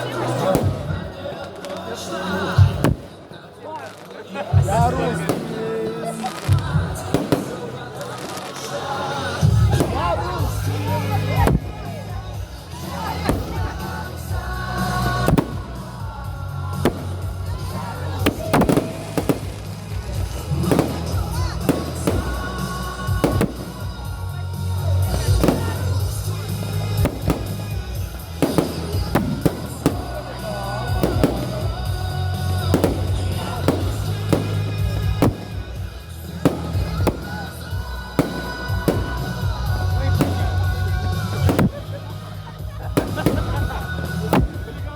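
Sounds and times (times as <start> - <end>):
fireworks bursting with bangs: 0.0 - 44.9
fireworks crackle: 0.0 - 44.9
music through loudspeakers: 0.0 - 44.9.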